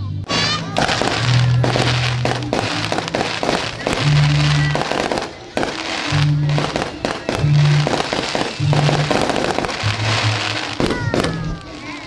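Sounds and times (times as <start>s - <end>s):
music with deep bass: 0.0s - 12.0s
crackling hiss: 0.3s - 12.0s
firework shells bursting: 0.3s - 12.0s.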